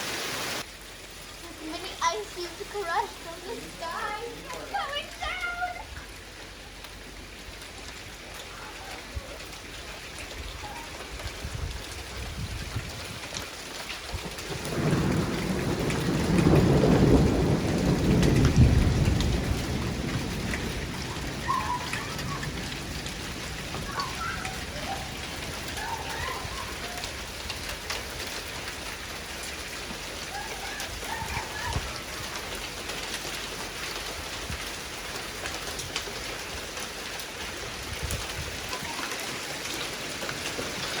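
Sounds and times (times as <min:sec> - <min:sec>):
steady rain falling: 0:00.0 - 0:41.0
sharp ticks of raindrops: 0:00.6 - 0:41.0
thunder rumble: 0:01.6 - 0:36.7.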